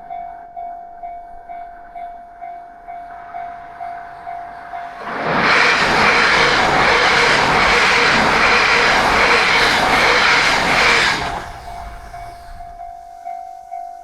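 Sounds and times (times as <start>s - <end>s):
train passing: 1.4s - 13.3s.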